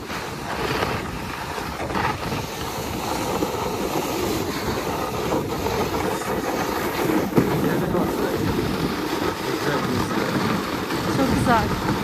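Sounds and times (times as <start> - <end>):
sled sliding on snow: 0.0 - 12.0
wind buffeting microphone: 0.0 - 12.0.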